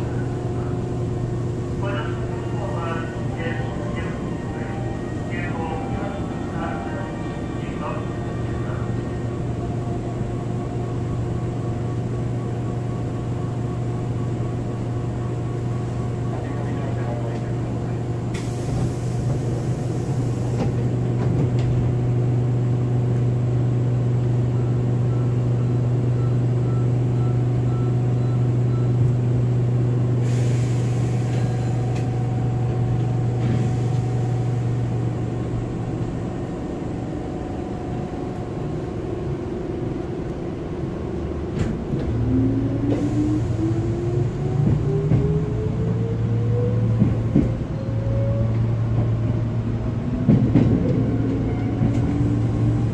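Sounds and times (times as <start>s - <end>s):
electric train low hum: 0.0s - 52.9s
rail rumble: 0.0s - 52.9s.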